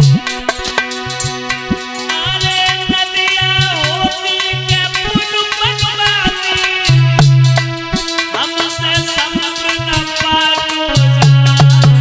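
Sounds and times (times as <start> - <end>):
sustained keyboard notes: 0.0 - 11.9
drum strokes: 0.0 - 12.0.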